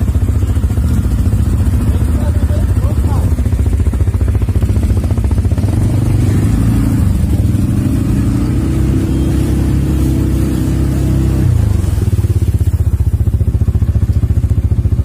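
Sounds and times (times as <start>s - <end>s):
atv engine running under throttle: 0.0s - 15.0s.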